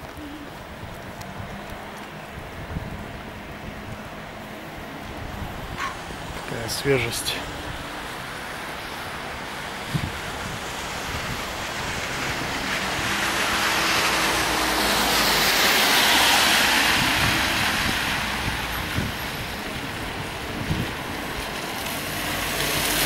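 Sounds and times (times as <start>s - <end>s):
tyres hissing on wet road: 1.4s - 23.0s.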